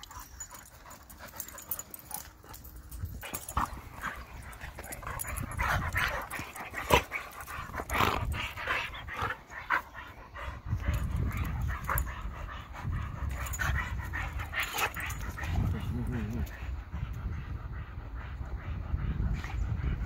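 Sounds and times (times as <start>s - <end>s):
dogs play-fighting vocalizing: 0.0s - 20.0s.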